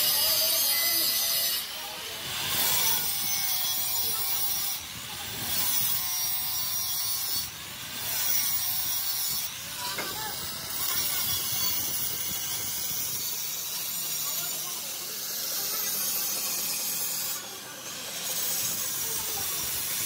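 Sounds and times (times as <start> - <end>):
angle grinder grinding metal: 0.0 - 20.0.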